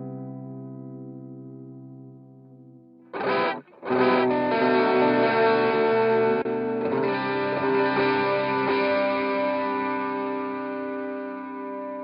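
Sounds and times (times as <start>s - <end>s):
electric guitar chords with effects: 0.0s - 12.0s.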